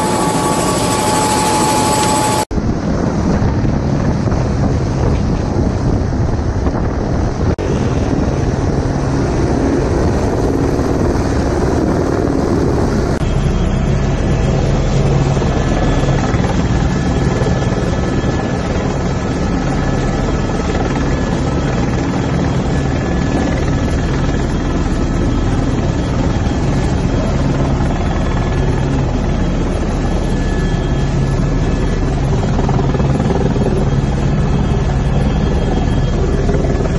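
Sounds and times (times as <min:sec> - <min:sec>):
faint high turbine whine: 0:00.0 - 0:36.9
helicopter rotor drone: 0:00.0 - 0:36.9.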